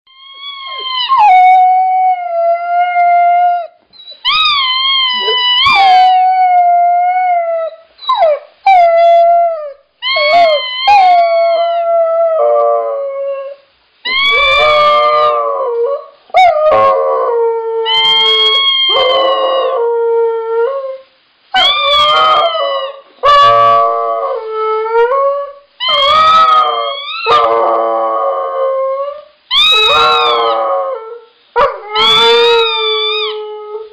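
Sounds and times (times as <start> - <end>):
dog howling: 4.3 - 21.0, 21.6 - 33.9.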